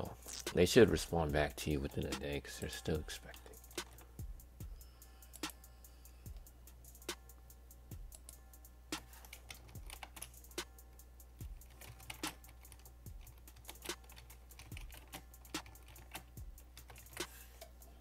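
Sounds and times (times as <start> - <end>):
faint music with steady beat: 0.0 - 18.0.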